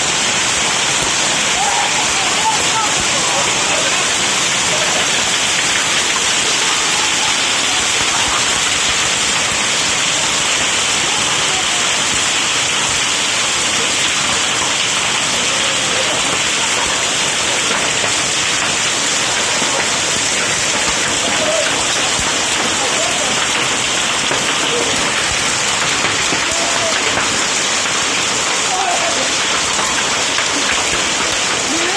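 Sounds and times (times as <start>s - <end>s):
hailstones pelting: 0.0s - 31.9s
heavy rain pelting down: 0.0s - 31.9s.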